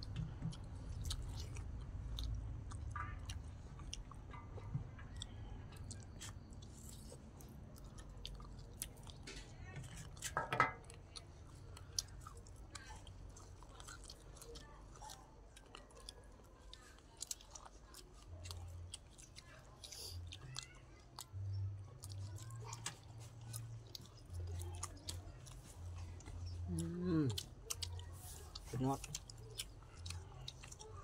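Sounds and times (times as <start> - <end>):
people chewing and biting food: 0.0 - 31.0.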